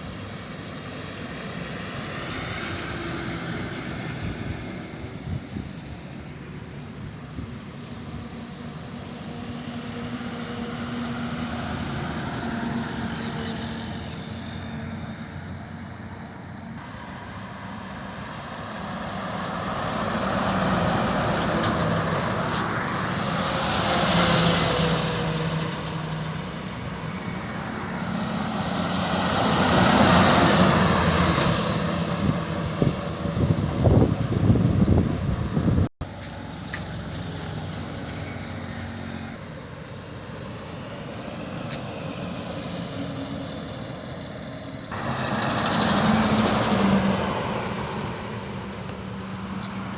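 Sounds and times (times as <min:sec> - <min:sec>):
heavy trucks passing: 0:00.0 - 0:49.9.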